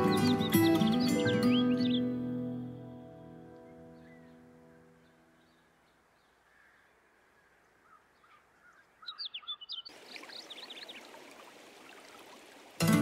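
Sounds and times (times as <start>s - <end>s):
faint bird chirps: 0.0s - 2.2s, 3.6s - 12.3s.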